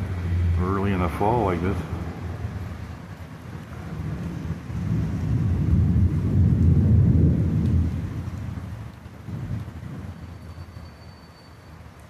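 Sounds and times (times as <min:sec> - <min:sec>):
thunder rumbling: 0:00.0 - 0:11.2
rain hissing: 0:00.0 - 0:12.0.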